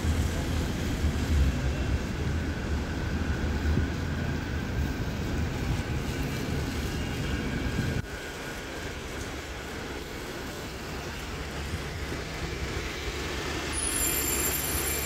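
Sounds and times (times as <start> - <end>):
bus engine rumble: 0.0 - 15.0
city traffic: 0.0 - 15.0.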